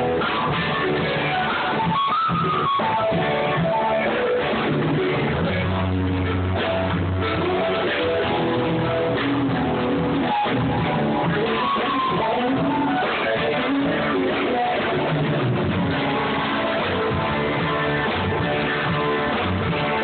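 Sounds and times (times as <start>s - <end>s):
muffled guitar rock music: 0.0s - 20.0s.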